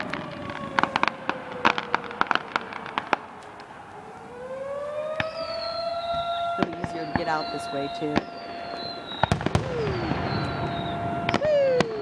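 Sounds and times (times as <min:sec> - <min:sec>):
fireworks crackling: 0:00.0 - 0:12.0
siren wailing: 0:00.0 - 0:12.0.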